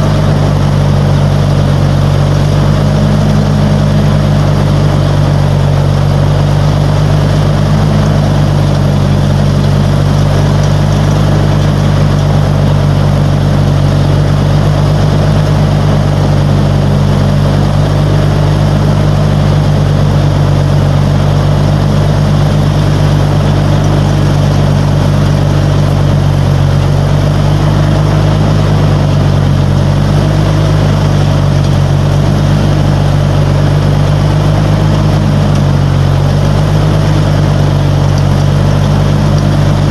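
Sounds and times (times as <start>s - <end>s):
riding lawnmower engine running: 0.0s - 39.9s.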